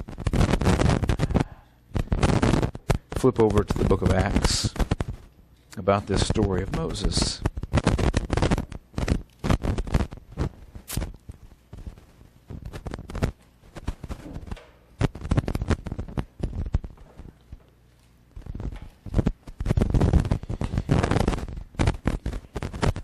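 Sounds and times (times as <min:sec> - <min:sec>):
book pages turning near microphone: 0:00.0 - 0:23.0.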